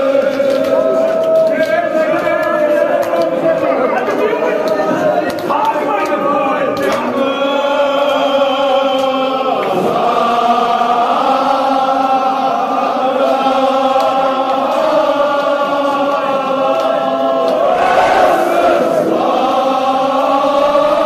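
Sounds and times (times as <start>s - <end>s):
men chanting with long held notes: 0.0s - 21.0s.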